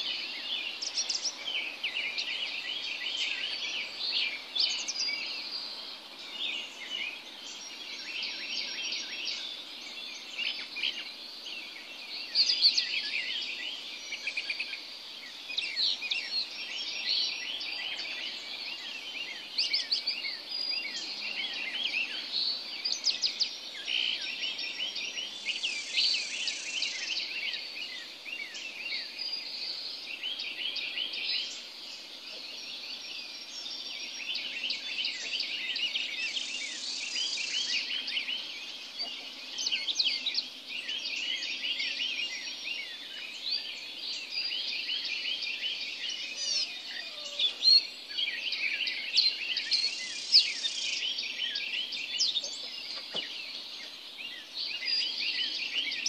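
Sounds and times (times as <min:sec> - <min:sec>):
birds chirping and whistling: 0:00.0 - 0:05.6, 0:06.2 - 0:56.0.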